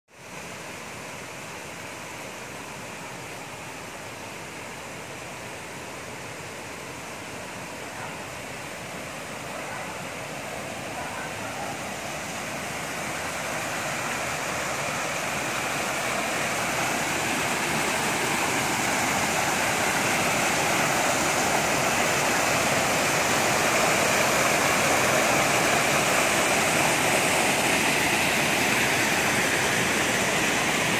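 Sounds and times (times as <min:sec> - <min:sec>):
small waterfall rushing: 0:00.1 - 0:30.9.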